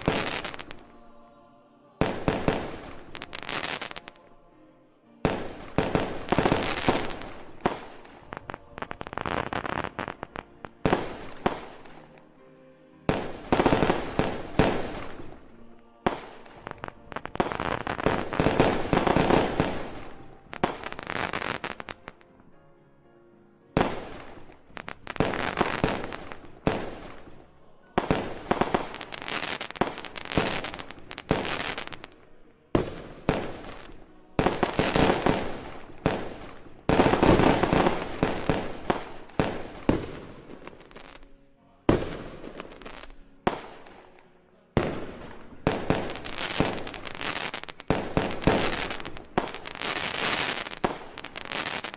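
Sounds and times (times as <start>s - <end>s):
fireworks bursting with echoes: 0.0s - 1.1s, 2.0s - 4.3s, 5.2s - 12.4s, 13.1s - 22.5s, 23.8s - 51.9s.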